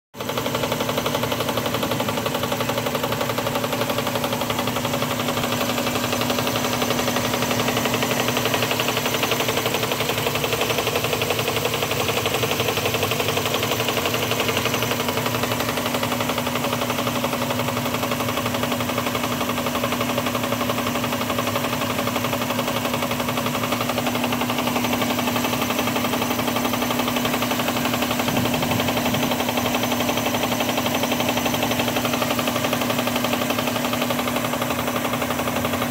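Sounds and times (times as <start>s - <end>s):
engine knocking clatter: 0.2s - 35.9s.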